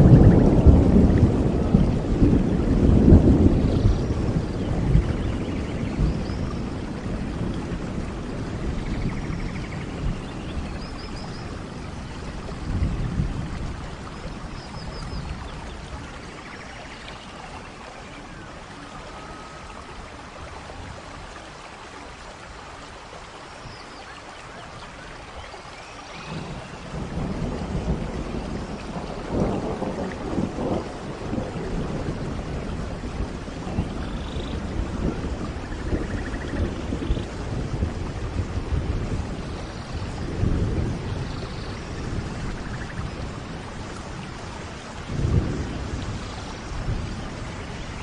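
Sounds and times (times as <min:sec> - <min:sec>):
low rumbling thunder: 0:00.0 - 0:16.6, 0:26.1 - 0:48.0
steady rain: 0:00.0 - 0:48.0.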